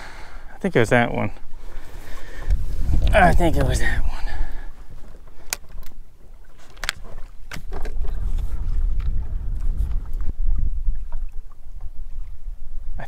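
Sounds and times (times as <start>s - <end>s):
low rumble of wind: 0.0s - 13.0s
waves slapping against boat hull: 1.2s - 12.5s.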